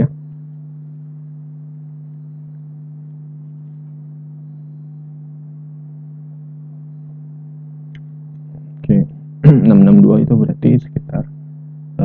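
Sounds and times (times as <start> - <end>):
steady low-pitched hum: 0.0 - 12.0.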